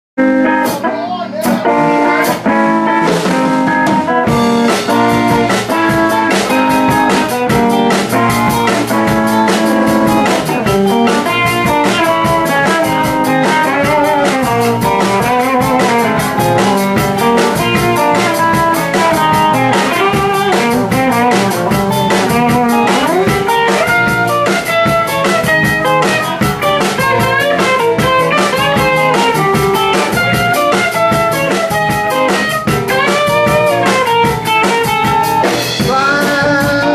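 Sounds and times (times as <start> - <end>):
bass guitar: 0.2 - 36.9
drum kit: 0.2 - 36.9
electric guitar lines: 0.2 - 36.9.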